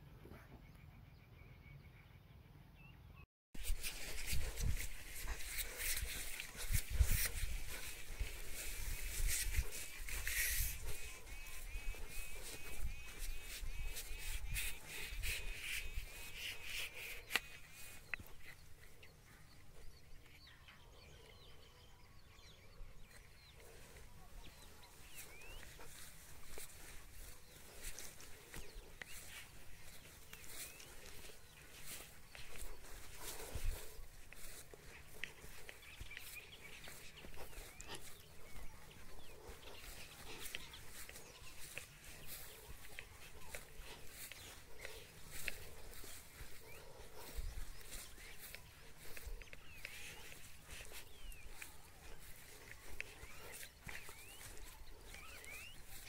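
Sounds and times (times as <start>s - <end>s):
faint bird chirps: 0.0s - 56.0s.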